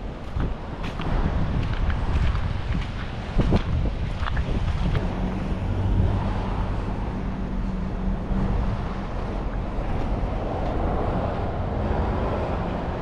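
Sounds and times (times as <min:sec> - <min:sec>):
surf washing: 0:00.0 - 0:13.0
wind buffeting microphone: 0:00.0 - 0:13.0.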